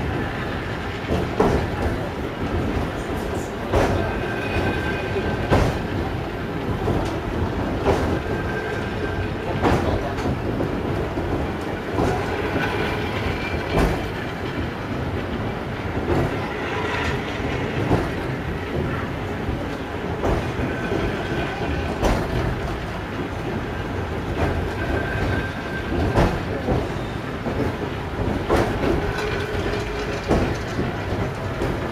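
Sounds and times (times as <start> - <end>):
funicular car rumbling: 0.0 - 31.9
wheels clacking over rails: 0.0 - 31.9.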